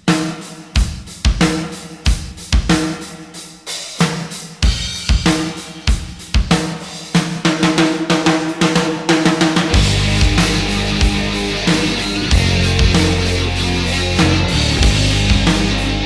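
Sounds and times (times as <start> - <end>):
drum kit hits: 0.0 - 16.0
rock band playing: 0.0 - 16.0.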